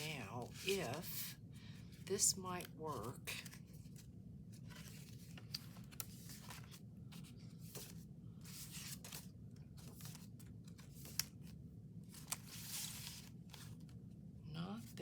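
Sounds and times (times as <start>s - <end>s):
paper rustling: 0.0s - 1.9s, 2.6s - 14.0s
low steady hum: 0.0s - 15.0s.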